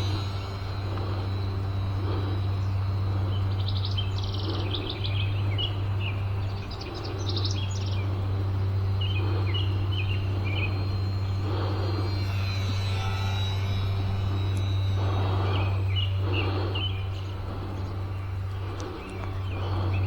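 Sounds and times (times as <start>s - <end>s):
songbirds chirping: 0.0s - 20.0s
steady low hum: 0.0s - 20.0s.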